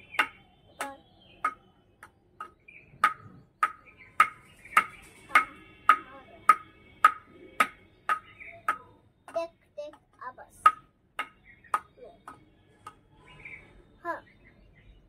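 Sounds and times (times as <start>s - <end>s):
table tennis ball bouncing on paddle: 0.1s - 13.0s.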